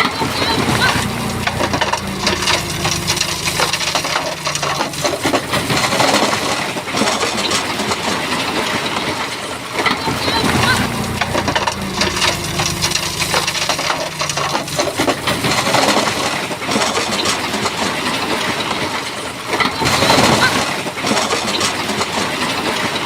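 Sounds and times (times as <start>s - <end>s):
bulldozer diesel engine hum: 0.0s - 8.5s, 9.3s - 22.5s.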